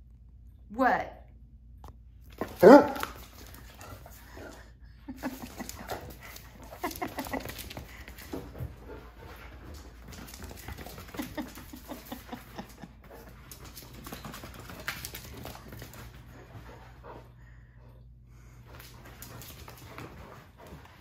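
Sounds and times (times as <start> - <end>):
dog paws clicking on floor: 1.9 - 17.6, 18.4 - 21.0.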